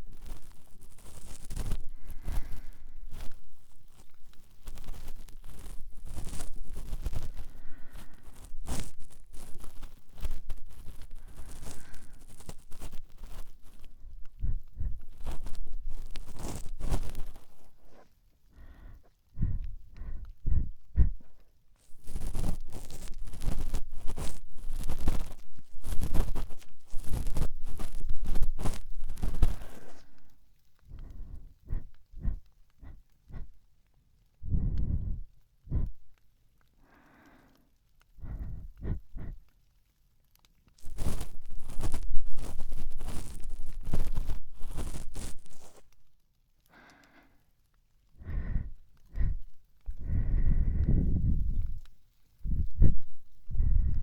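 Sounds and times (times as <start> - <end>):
cotton swab scratching microphone: 0.0 - 18.2, 19.3 - 33.6, 34.4 - 36.2, 38.2 - 39.5, 40.7 - 46.0, 48.2 - 54.0
soft breathy sounds: 0.0 - 39.6, 40.8 - 54.0.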